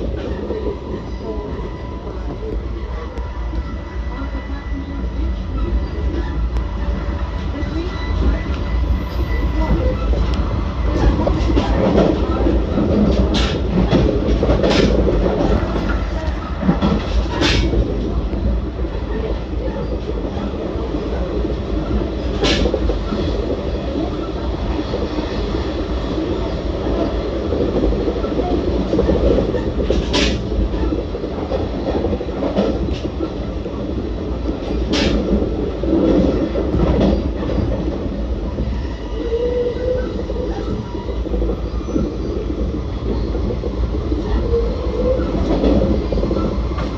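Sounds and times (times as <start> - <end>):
rail joint clicks: 0.0 - 46.9
train wheels rumbling on rail: 0.0 - 46.9.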